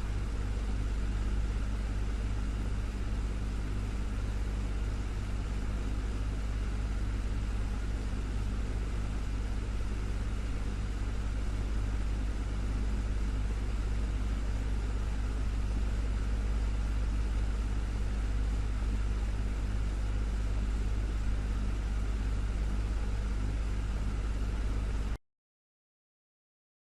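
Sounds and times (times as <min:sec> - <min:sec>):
desktop fan running: 0:00.0 - 0:25.2.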